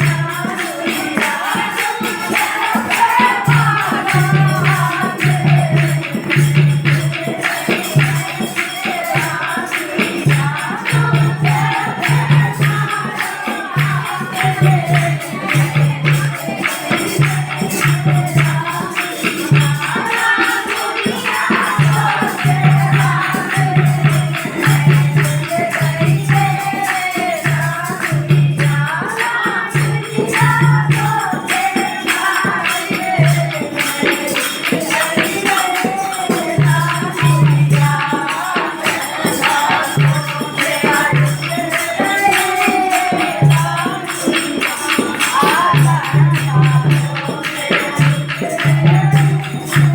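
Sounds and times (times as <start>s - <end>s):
drum beat: 0.0s - 49.9s
jingling percussion: 0.0s - 49.9s.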